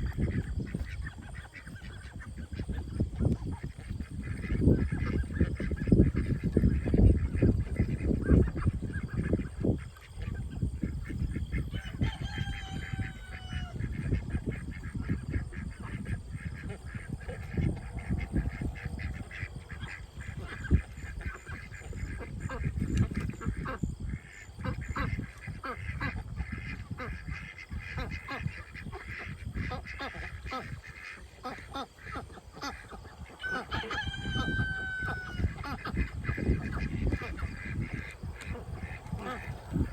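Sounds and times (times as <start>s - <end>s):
ducks falling calls: 0.0s - 39.9s
ducks quacking: 0.0s - 39.9s.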